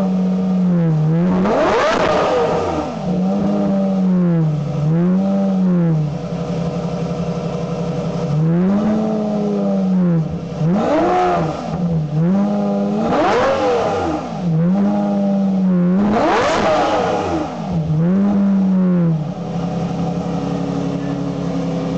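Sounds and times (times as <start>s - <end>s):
sports car engine revving: 0.0s - 21.9s.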